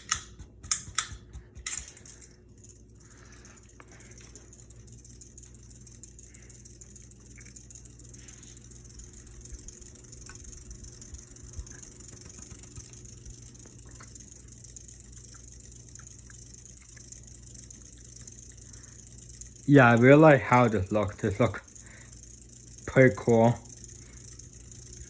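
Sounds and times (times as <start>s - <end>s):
ceiling fan motor hum: 0.0s - 25.0s.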